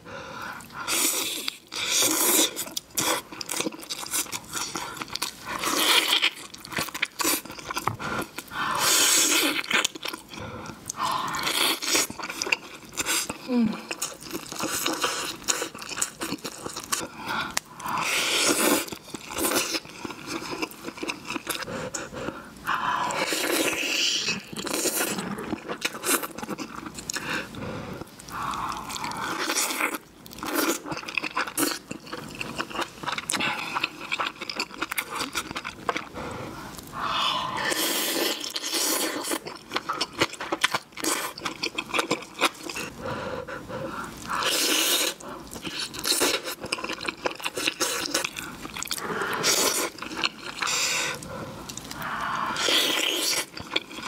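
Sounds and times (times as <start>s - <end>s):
person chewing meat off bones: 0.6s - 22.2s, 23.1s - 43.0s, 43.8s - 54.0s.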